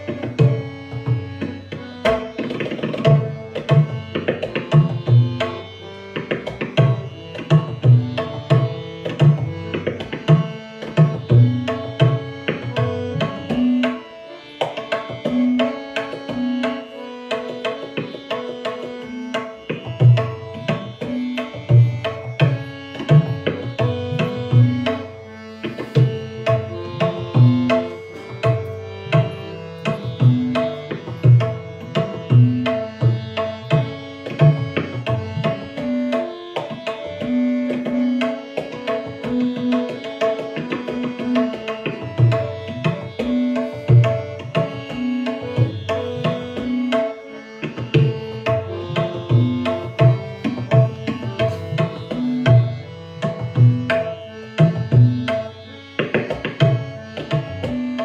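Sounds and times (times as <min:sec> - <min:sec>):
harmonium melody: 0:00.0 - 0:58.0
tabla strokes: 0:00.0 - 0:58.0.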